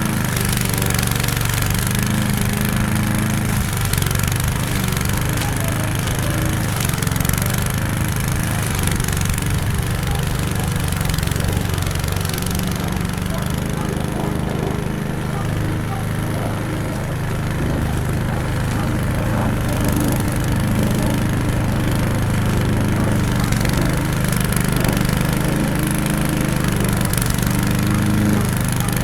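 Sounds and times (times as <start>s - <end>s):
lawn mower engine running: 0.0s - 29.0s.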